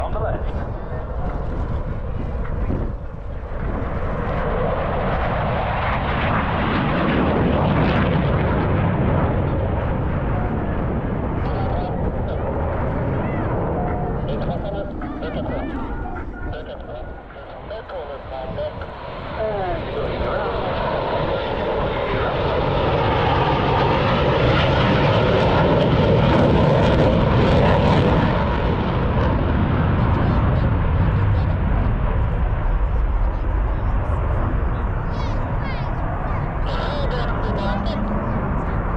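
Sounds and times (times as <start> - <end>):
fighter jet passing: 0.0 - 38.9.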